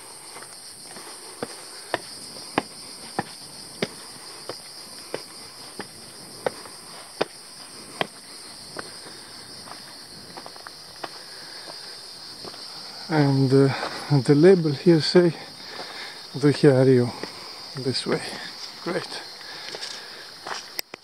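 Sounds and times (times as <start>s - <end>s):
cicadas droning: 0.0s - 21.0s
footsteps on stone path: 0.0s - 21.0s.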